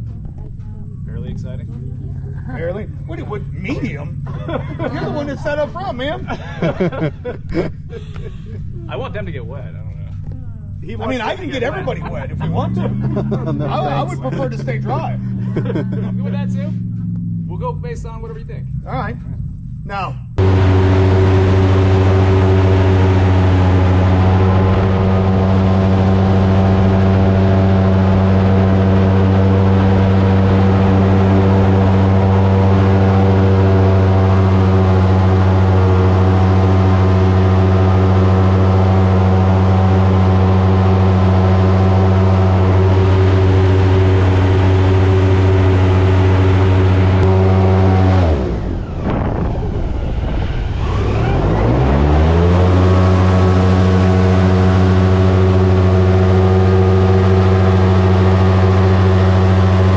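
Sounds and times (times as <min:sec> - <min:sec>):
airboat engine and propeller: 0:00.0 - 0:59.9.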